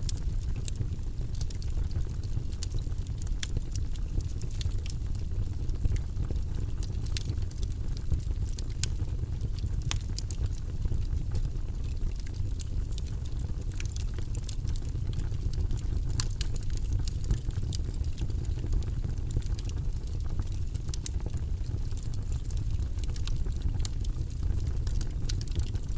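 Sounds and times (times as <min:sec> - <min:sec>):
low fire rumble: 0:00.0 - 0:25.9
wood fire crackling and popping: 0:00.0 - 0:25.9.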